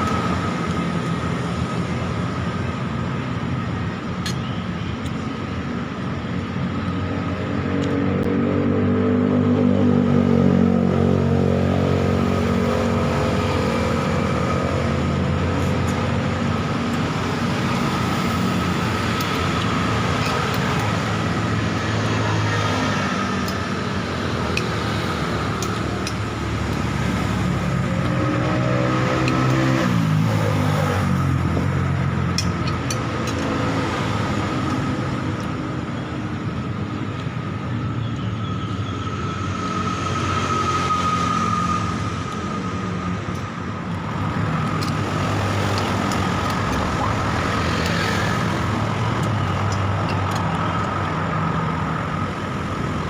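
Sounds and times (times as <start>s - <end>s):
steady traffic hum: 0.0s - 53.0s
vehicles passing: 0.0s - 53.0s.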